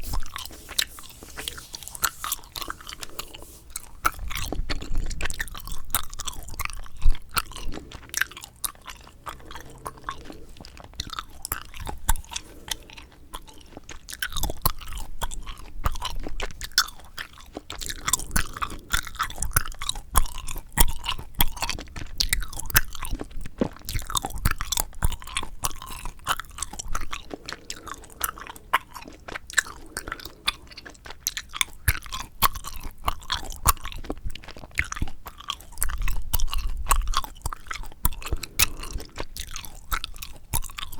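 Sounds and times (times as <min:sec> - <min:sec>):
chewing gum mouth clicks: 0:00.0 - 0:40.9.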